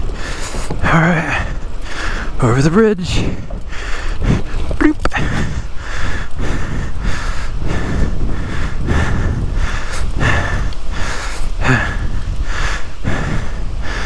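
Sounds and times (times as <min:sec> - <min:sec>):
heavy rhythmic breathing: 0:00.0 - 0:14.0
low wind rumble: 0:00.0 - 0:14.0.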